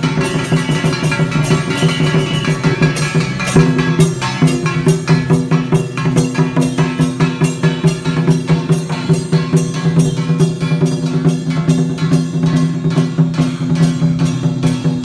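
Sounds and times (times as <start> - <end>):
music with drums and percussion: 0.0 - 15.0.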